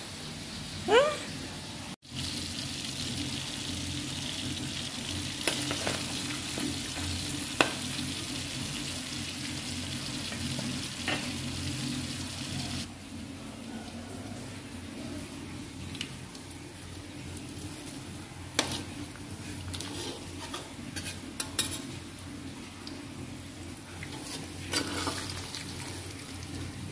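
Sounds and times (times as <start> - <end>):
food sizzling in a pan: 2.0 - 26.9.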